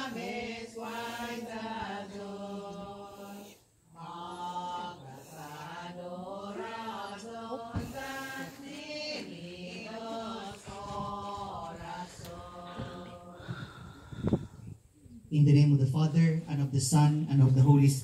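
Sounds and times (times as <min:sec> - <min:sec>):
voices singing a slow hymn: 0:00.0 - 0:15.2.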